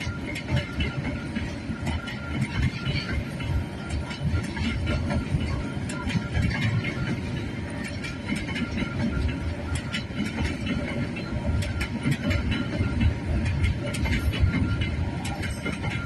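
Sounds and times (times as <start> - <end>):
train wheels rumbling on rails: 0.0 - 16.0
wheels clicking and clacking: 0.0 - 16.0.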